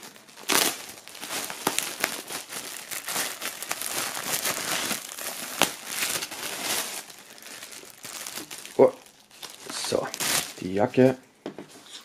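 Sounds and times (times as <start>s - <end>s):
plastic film crinkling: 0.0s - 11.2s.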